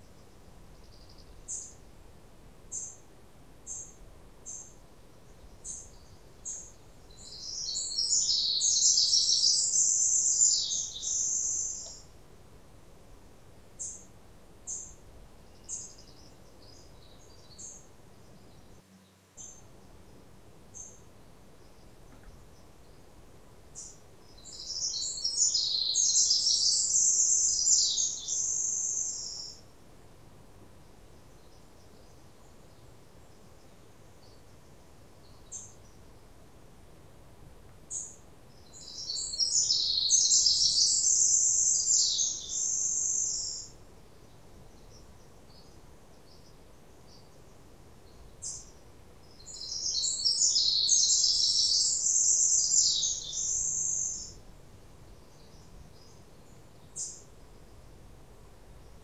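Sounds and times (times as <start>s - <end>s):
songbird singing: 0.0s - 1.9s, 2.7s - 12.4s, 13.0s - 29.7s, 30.8s - 36.5s, 37.7s - 59.0s.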